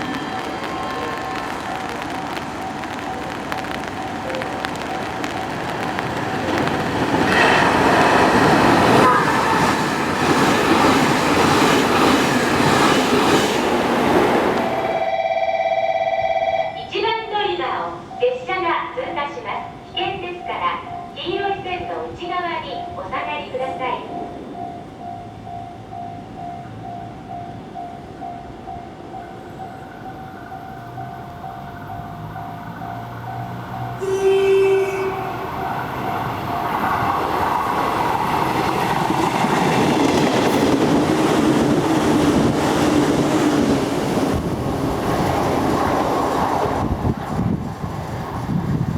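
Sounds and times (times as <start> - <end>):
train wheels rumbling on rails: 0.0 - 15.1, 18.0 - 48.9.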